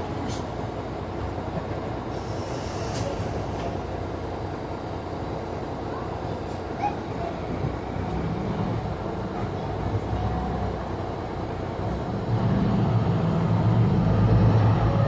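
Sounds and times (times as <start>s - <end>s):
bus engine idling and accelerating: 0.0s - 15.0s.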